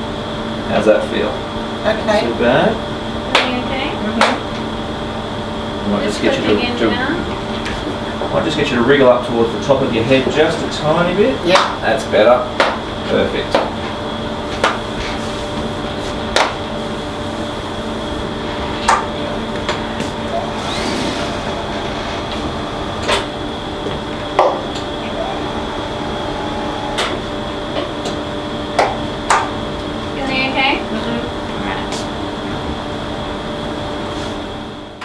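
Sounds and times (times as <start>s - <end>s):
equipment humming: 0.0s - 34.1s.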